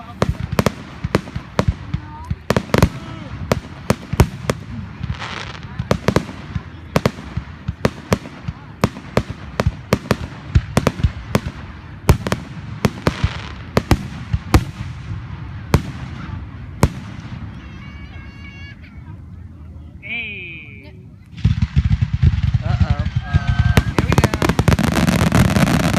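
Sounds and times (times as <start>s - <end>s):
crackling hiss: 0.0s - 18.3s, 21.1s - 25.9s
fireworks bangs: 0.0s - 18.9s, 21.3s - 25.9s
low rumbling echo: 0.0s - 25.9s.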